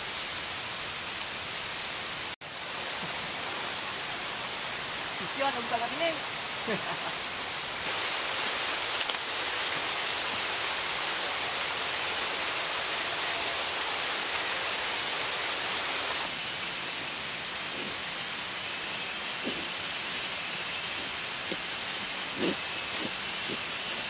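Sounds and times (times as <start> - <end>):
rushing water hiss: 0.0 - 24.0.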